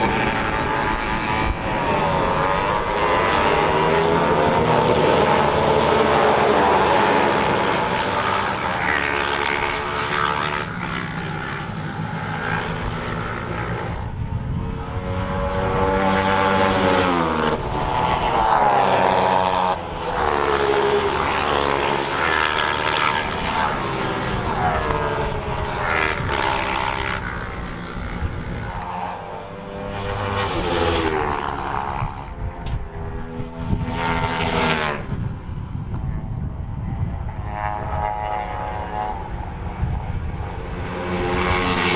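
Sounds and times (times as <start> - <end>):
racing motorcycles passing: 0.0 - 41.9.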